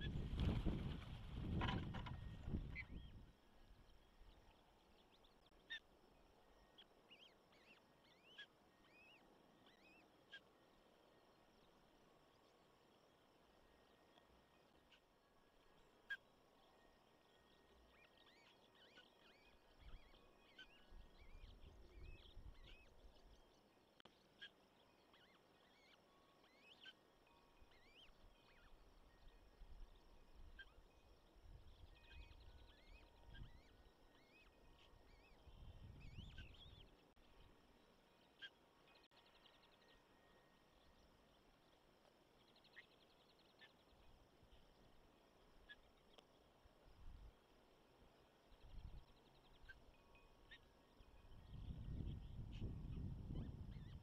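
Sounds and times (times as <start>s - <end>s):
faint bird chirps: 0.0s - 54.0s.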